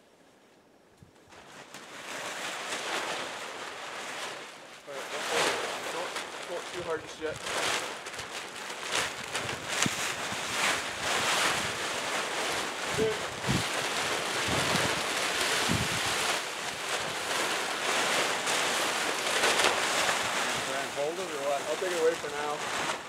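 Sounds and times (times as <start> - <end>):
plastic tarps rustling and crinkling: 1.1 - 23.0.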